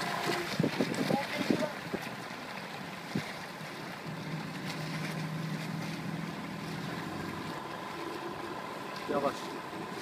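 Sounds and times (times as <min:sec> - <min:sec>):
small outboard motor running: 0:00.0 - 0:10.0
water noise: 0:00.0 - 0:10.0
wind: 0:00.0 - 0:10.0.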